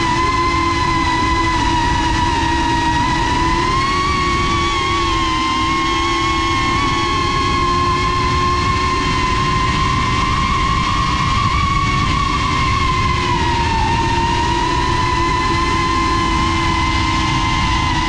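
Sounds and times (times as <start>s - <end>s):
drone motors high whine: 0.0s - 18.0s.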